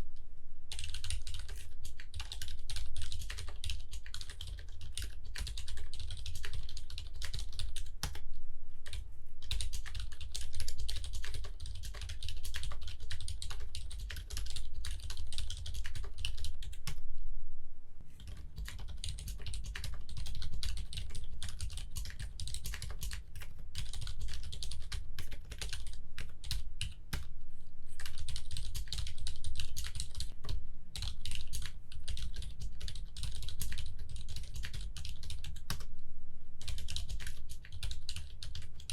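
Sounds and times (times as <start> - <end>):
fast typing on mechanical keyboard: 0.7 - 8.2, 8.9 - 17.0, 18.2 - 27.3, 28.0 - 35.8, 36.6 - 38.9.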